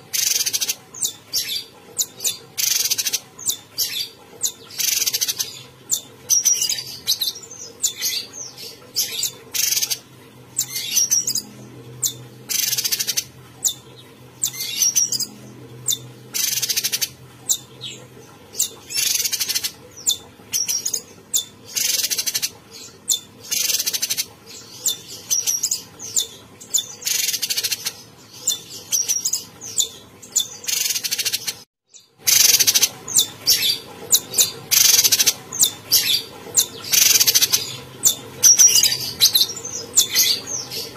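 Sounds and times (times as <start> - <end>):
faint steady hum: 0.0 - 40.9
bird singing high calls: 0.1 - 10.0, 10.6 - 40.9.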